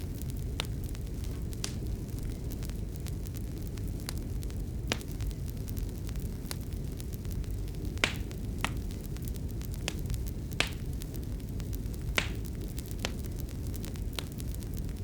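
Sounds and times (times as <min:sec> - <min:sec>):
low rumble of burning fire: 0:00.0 - 0:15.0
wood fire crackling and popping: 0:00.0 - 0:15.0.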